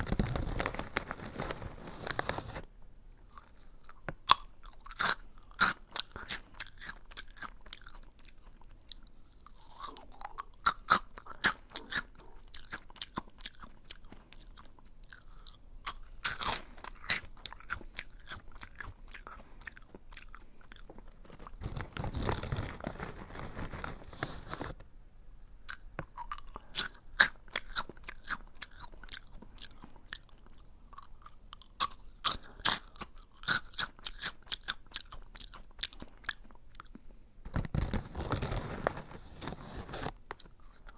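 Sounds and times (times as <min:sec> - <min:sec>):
crunchy chewing of a snack: 0:00.0 - 0:24.8, 0:25.5 - 0:40.9.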